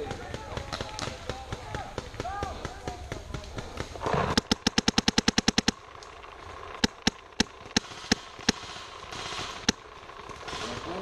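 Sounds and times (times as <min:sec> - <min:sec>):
paintball marker firing: 0:00.0 - 0:05.8, 0:06.8 - 0:11.0.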